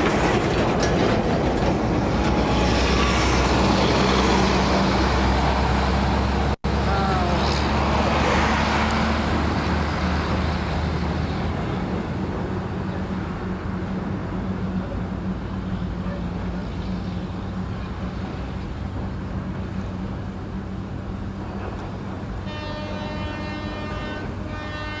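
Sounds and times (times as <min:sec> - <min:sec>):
diesel locomotive engine hum: 0:00.0 - 0:25.0.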